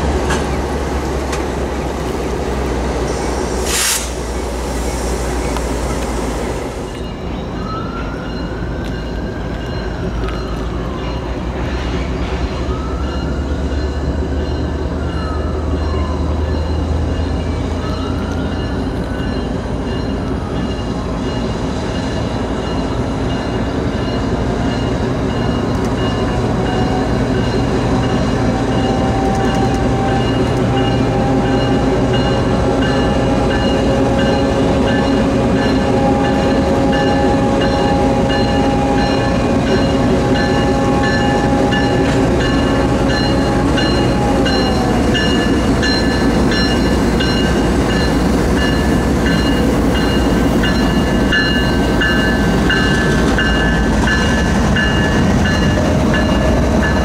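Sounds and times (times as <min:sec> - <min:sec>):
diesel locomotive engine rumble: 0:00.0 - 0:57.0
locomotive whine: 0:00.0 - 0:57.0.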